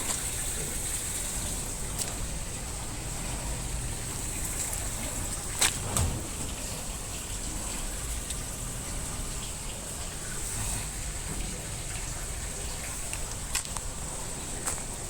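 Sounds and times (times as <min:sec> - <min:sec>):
washing machine water rushing: 0:00.0 - 0:15.0.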